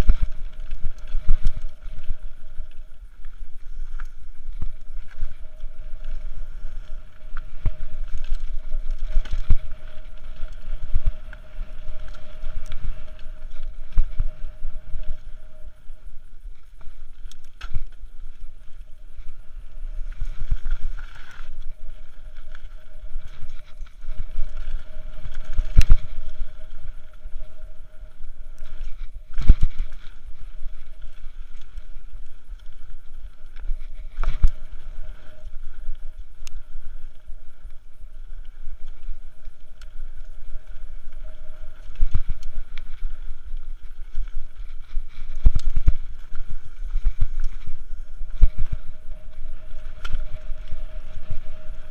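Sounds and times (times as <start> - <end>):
bike rattling over rough ground: 0.0 - 51.9
bike tyres rumbling on dirt: 0.0 - 51.9
faint steady hum: 0.0 - 51.9
wind on microphone: 0.0 - 51.9.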